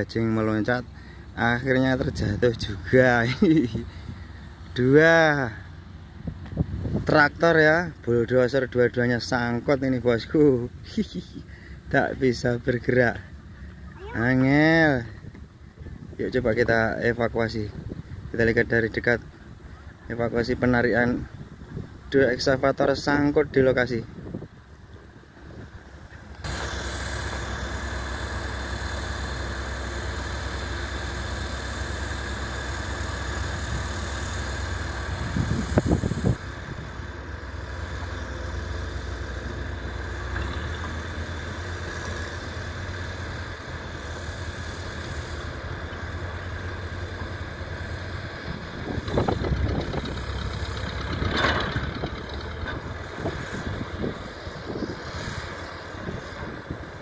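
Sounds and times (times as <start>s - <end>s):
diesel engines droning: 0.0s - 57.0s.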